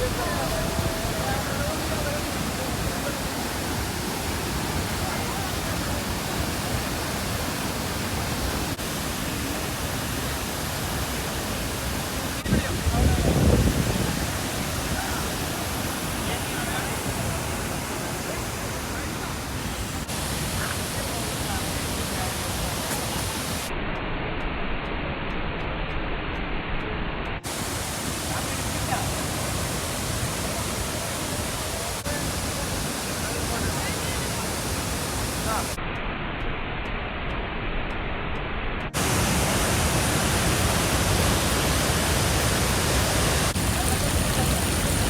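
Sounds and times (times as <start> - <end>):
waterfall roaring: 0.0 - 23.7, 27.4 - 35.8, 38.9 - 45.0.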